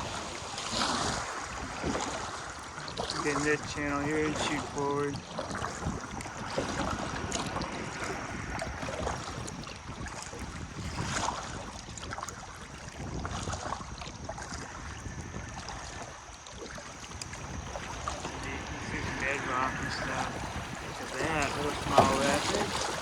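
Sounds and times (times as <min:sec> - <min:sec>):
water rushing and splashing: 0:00.0 - 0:23.0
wind noise on microphone: 0:00.0 - 0:23.0.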